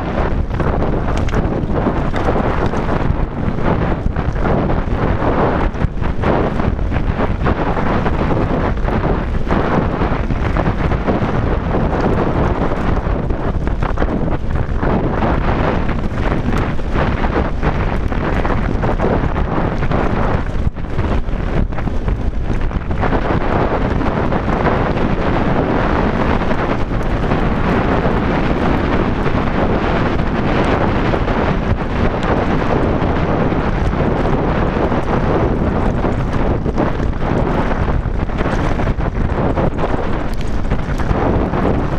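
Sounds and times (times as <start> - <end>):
bike knocking and rattling: 0.0 - 41.9
wind buffeting microphone: 0.0 - 41.9
tyres crunching on loose stones: 0.3 - 41.9.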